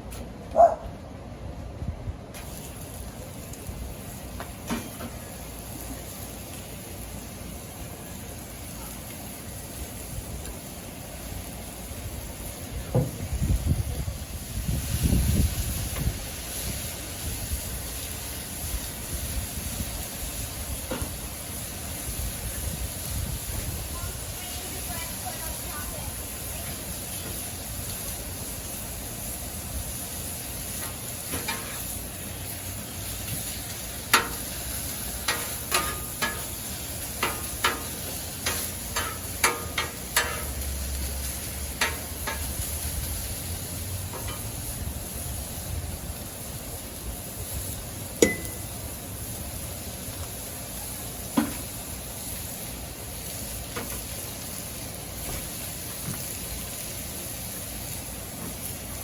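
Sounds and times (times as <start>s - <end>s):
food sizzling on griddle: 2.3s - 59.0s.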